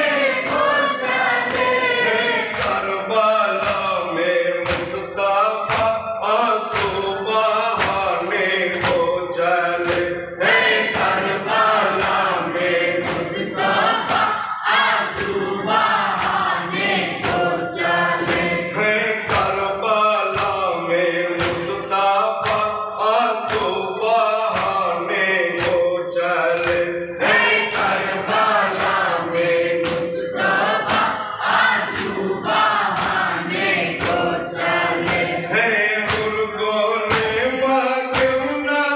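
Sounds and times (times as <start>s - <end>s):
men chanting in chorus: 0.0s - 38.9s.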